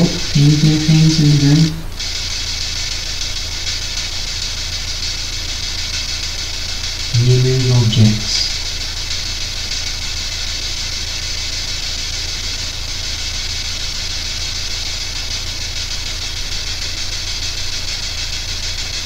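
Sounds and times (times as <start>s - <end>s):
low electrical hum: 0.0s - 19.0s
static hiss: 0.0s - 19.0s.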